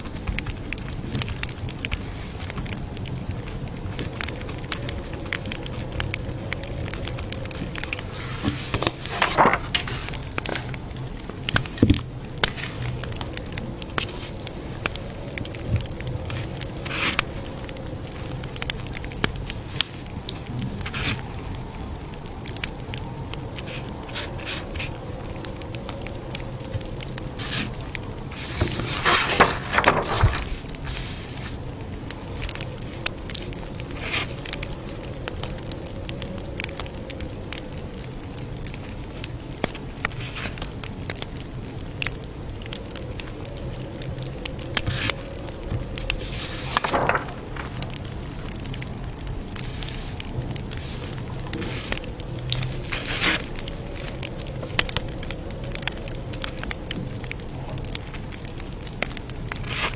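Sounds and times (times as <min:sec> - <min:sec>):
burning wood popping: 0:00.0 - 0:59.9
campfire crackling: 0:00.0 - 0:59.9.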